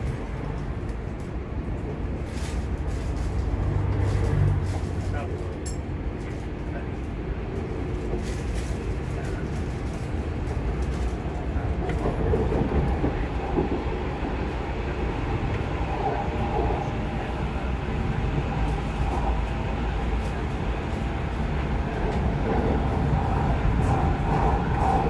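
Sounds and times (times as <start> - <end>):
train running low rumble: 0.0 - 25.0.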